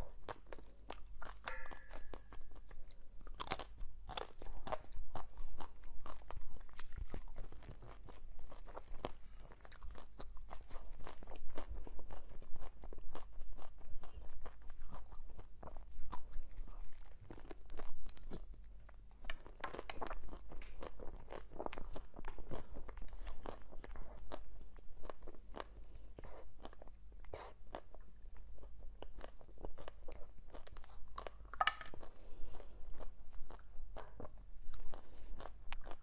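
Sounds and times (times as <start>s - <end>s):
chewing ice cream bars: 0.0s - 36.0s.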